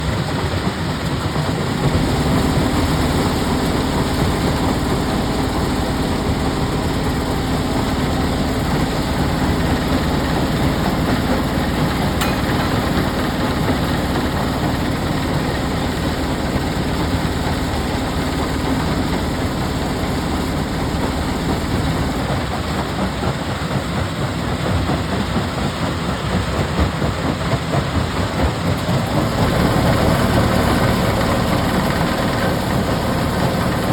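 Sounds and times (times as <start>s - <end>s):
heavy machine engine rattling: 0.0s - 33.9s.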